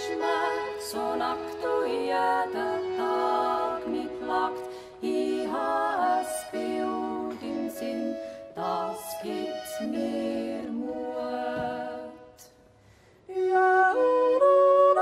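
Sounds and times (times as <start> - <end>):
women singing in harmony: 0.0 - 12.6, 13.3 - 15.0.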